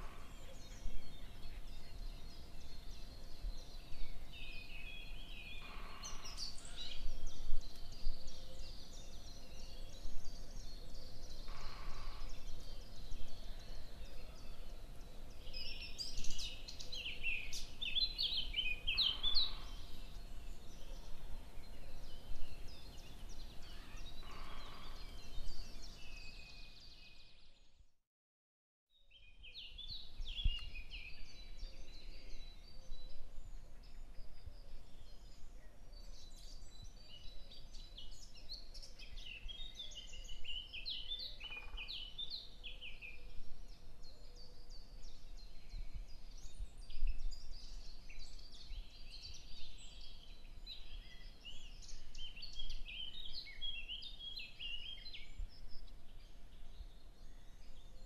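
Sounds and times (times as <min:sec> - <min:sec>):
birds chirping and twittering: 0:00.0 - 0:27.8, 0:28.9 - 0:58.0.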